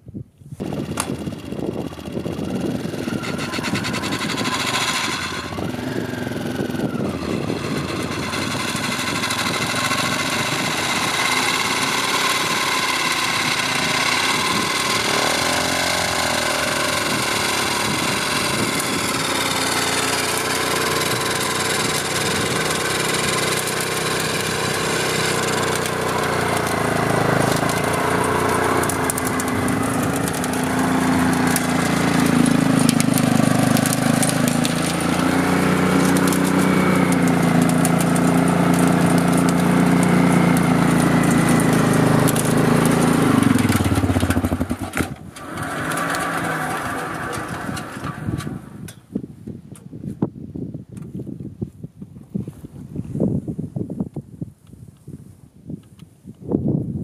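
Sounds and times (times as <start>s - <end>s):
motorcycle engine running: 0.6s - 48.9s.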